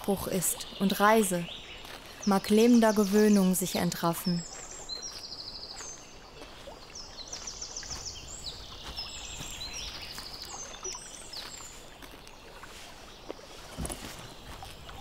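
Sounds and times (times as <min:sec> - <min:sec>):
songbirds trilling: 0:00.0 - 0:15.0.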